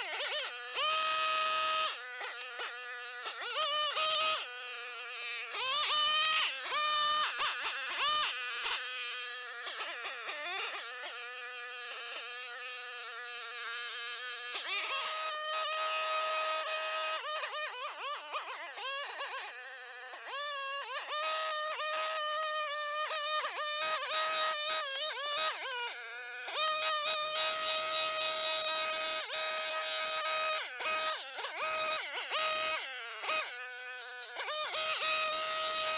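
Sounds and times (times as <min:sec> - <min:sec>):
string trimmer whining: 0:00.0 - 0:35.9.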